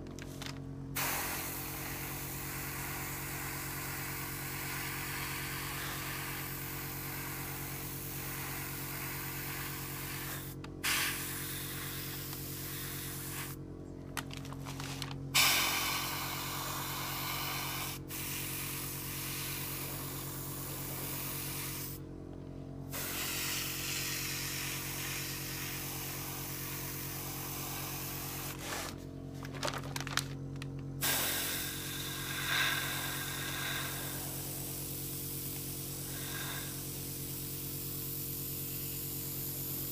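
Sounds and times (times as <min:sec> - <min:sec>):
airbrush spraying hiss: 0:01.0 - 0:13.6, 0:15.4 - 0:22.0, 0:22.9 - 0:28.9, 0:31.0 - 0:39.9.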